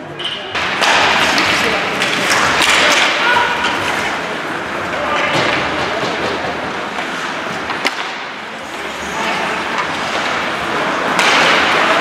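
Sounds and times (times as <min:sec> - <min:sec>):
spectators chattering: 0:00.0 - 0:12.0.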